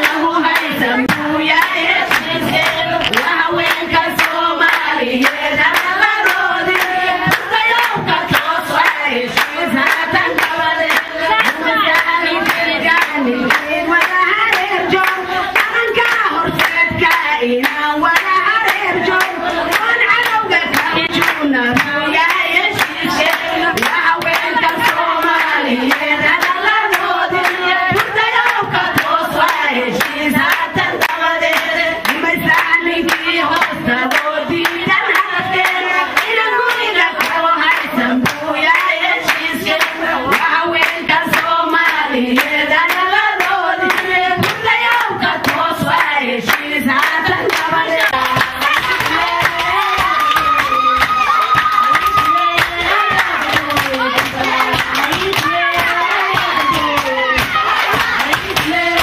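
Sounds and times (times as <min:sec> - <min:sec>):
rhythmic handclapping: 0:00.0 - 0:59.0
women singing: 0:00.0 - 0:59.0.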